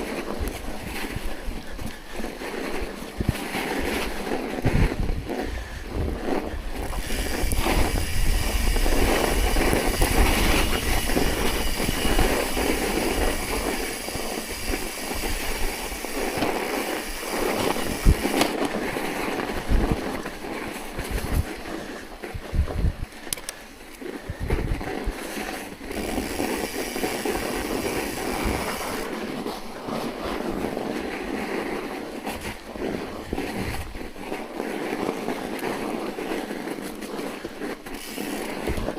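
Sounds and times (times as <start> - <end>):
wind on microphone: 0.0 - 34.6
riding over snow: 0.0 - 38.9.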